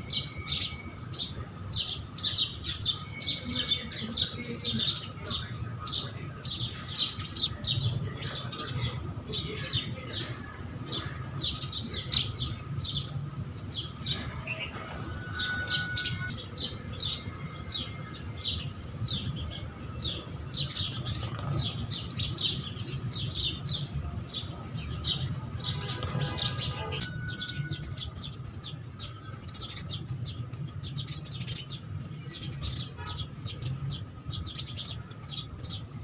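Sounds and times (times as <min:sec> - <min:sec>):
sparrows chirping: 0:00.0 - 0:36.0.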